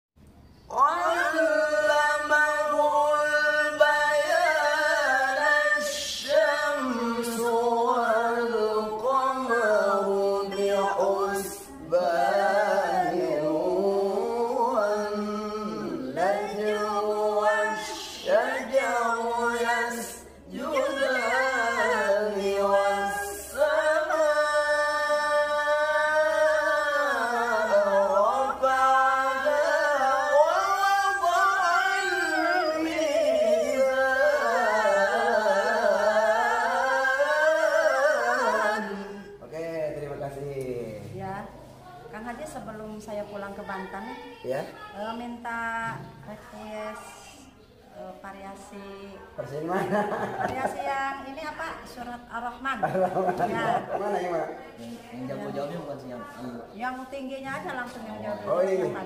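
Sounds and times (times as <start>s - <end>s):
person chanting recitation: 0.5s - 50.6s.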